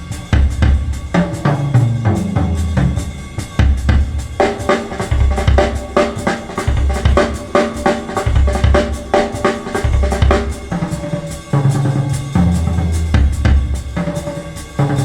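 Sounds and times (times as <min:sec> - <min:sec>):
bass drum and snare beat: 0:00.0 - 0:15.0
recorded music over loudspeakers: 0:00.0 - 0:15.0.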